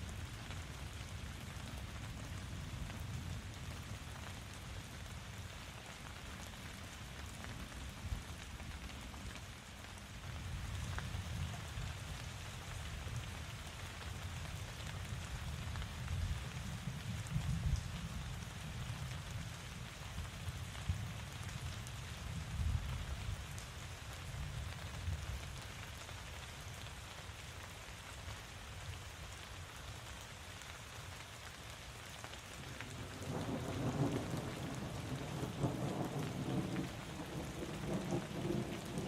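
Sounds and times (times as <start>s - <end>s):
louder raindrops: 0.0s - 39.0s
rain falling: 0.0s - 39.0s.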